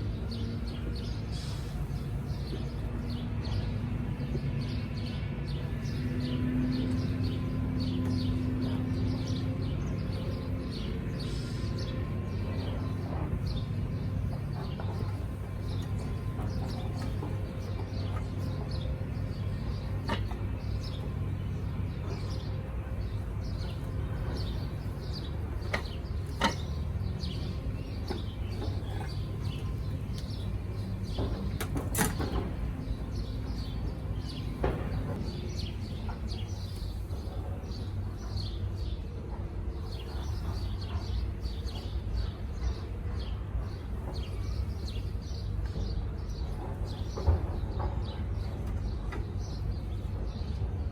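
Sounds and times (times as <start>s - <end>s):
constant low hum: 0.0s - 50.9s
small birds chirping: 0.0s - 50.9s.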